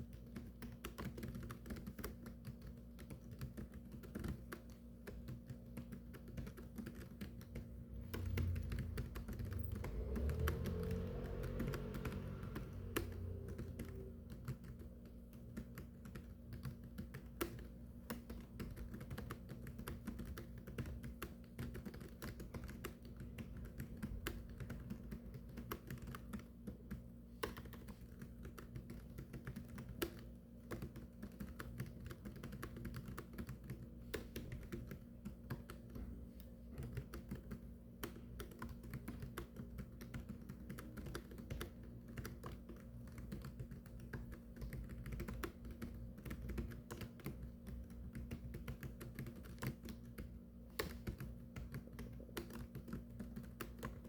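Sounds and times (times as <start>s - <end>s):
fast typing on keyboard: 0.0s - 54.0s.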